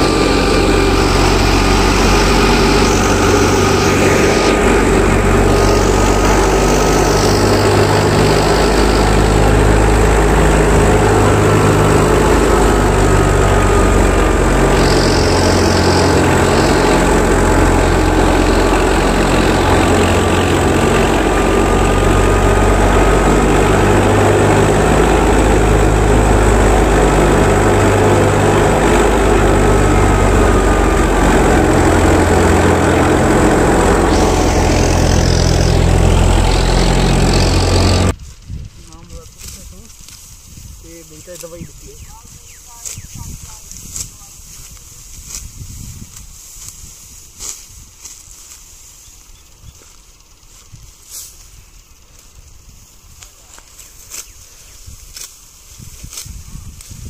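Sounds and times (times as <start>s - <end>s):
thresher mechanical drone: 0.0s - 57.0s.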